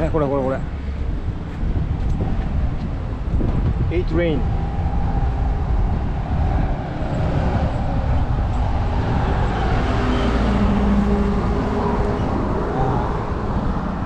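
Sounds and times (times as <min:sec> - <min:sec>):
traffic rumble on busy road: 0:00.0 - 0:14.0.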